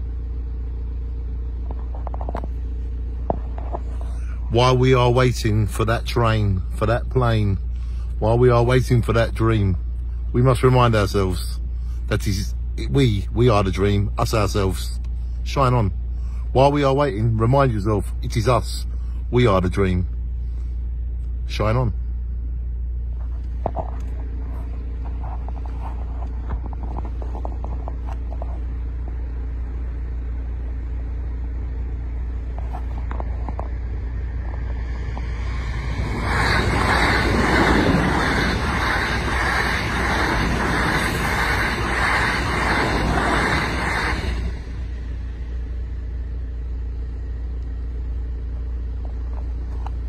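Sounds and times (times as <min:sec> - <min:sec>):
car steady low hum: 0:00.0 - 0:50.0.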